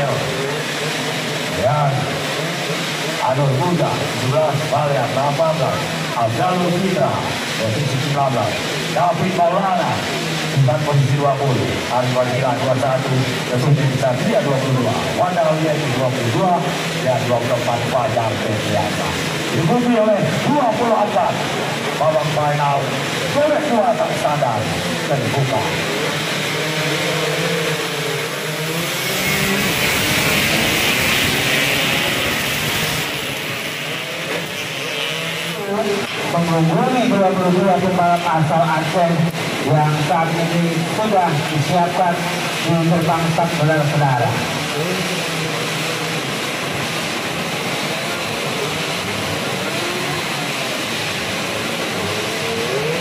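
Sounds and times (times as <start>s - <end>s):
motorcycles revving and launching: 0.0s - 53.0s.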